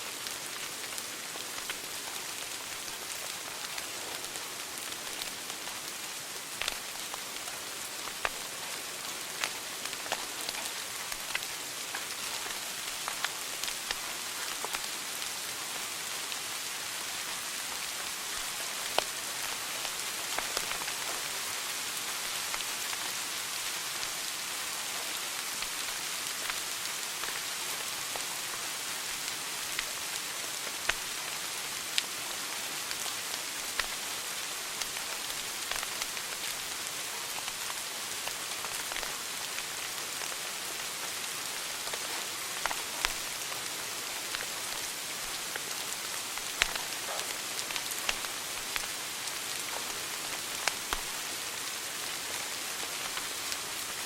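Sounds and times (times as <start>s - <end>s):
wood fire crackling: 0.1s - 15.9s, 17.1s - 23.2s, 25.4s - 54.0s.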